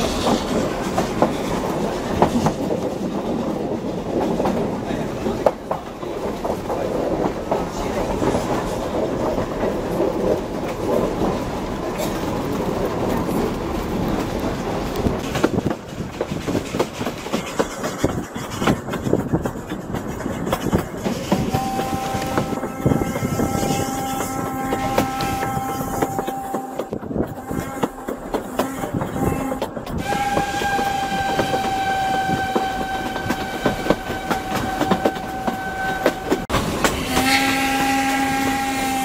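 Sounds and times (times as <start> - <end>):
train wheels clickety-clack: 0.0 - 39.0.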